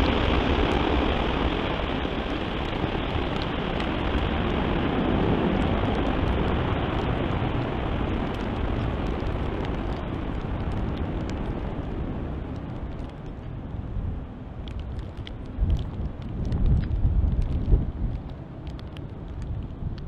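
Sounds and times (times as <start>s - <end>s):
jet engines at takeoff thrust: 0.0s - 20.0s
rain: 0.0s - 20.0s.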